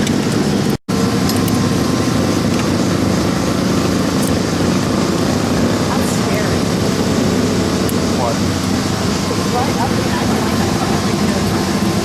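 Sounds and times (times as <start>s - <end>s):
race car engines rumbling: 0.0s - 12.0s.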